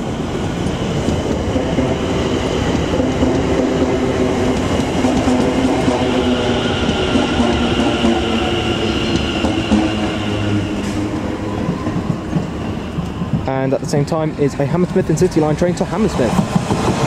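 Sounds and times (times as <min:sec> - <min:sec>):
electric train whine: 0:00.0 - 0:17.0
train wheel-on-rail rumble: 0:00.0 - 0:17.0.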